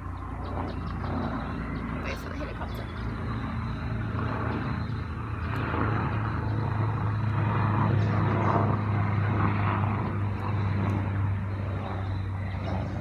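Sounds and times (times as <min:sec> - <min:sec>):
helicopter drone: 0:00.0 - 0:13.0.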